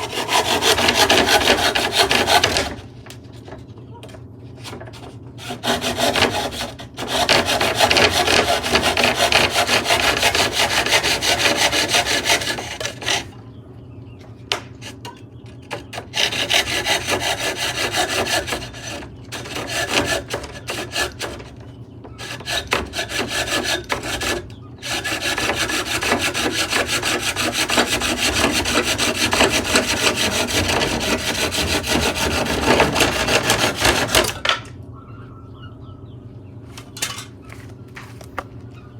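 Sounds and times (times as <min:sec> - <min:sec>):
tool rasping against wood: 0:00.0 - 0:03.0, 0:04.6 - 0:13.4, 0:14.8 - 0:34.4.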